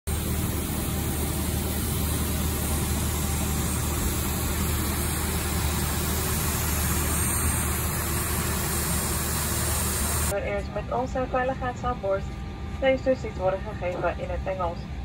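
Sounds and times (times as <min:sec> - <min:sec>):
aircraft and ground equipment drone: 0:00.1 - 0:15.0.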